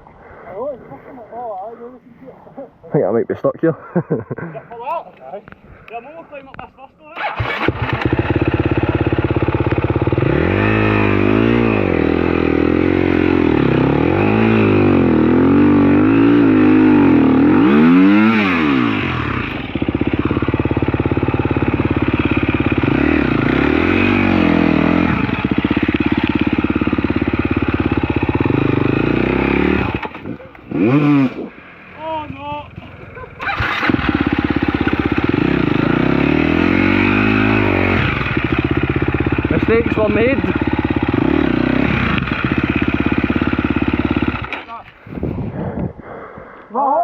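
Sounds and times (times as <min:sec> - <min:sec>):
dirt bike engine revving: 0:07.2 - 0:45.2.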